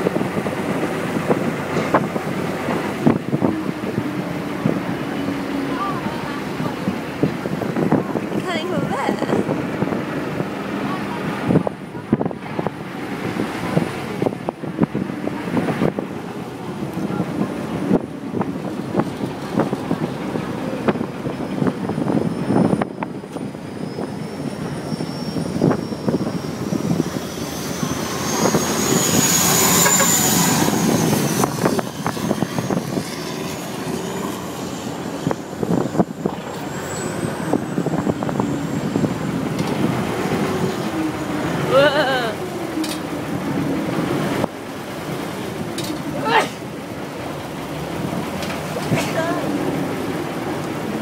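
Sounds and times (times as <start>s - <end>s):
ferry engine running: 0.0s - 51.0s
wind buffeting microphone: 0.0s - 51.0s.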